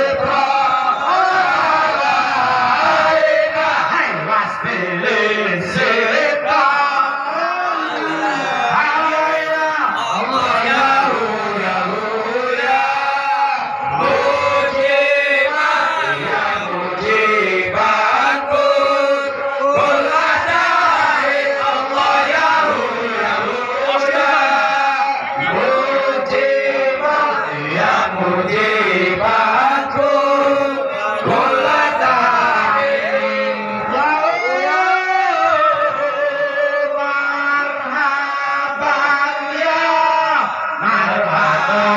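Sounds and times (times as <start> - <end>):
group chanting devotional song: 0.0 - 41.9.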